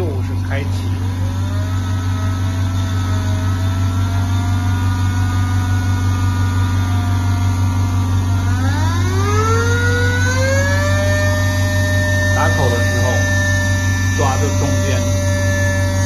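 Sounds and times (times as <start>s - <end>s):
air motor whining: 0.0s - 16.0s.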